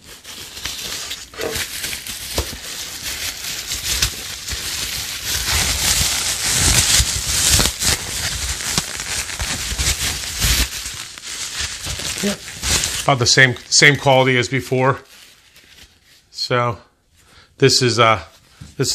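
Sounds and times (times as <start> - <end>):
bubble wrap crinkling and rustling: 0.0 - 16.5.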